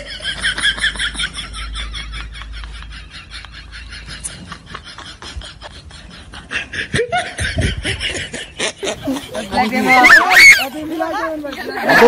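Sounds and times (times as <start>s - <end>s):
young people laughing: 0.0s - 12.0s.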